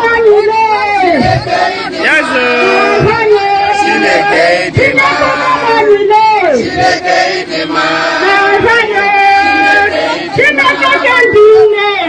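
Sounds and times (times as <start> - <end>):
crowd singing and chanting: 0.0 - 12.0.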